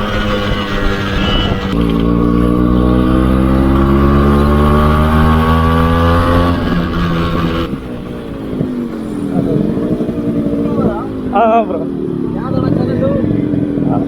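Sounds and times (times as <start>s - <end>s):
motorcycle engine under throttle: 0.0s - 14.0s.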